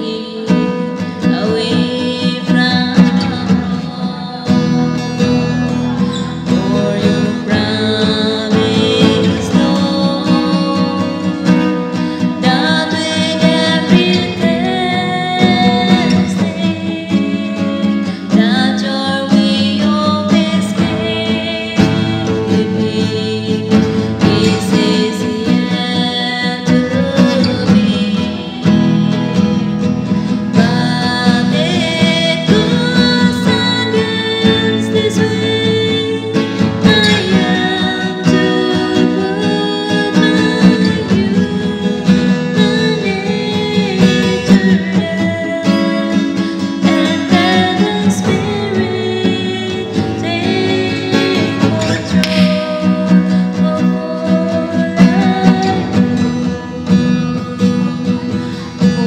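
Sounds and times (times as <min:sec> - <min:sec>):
acoustic guitar: 0:00.0 - 0:59.0
woman singing worship song: 0:00.0 - 0:59.0.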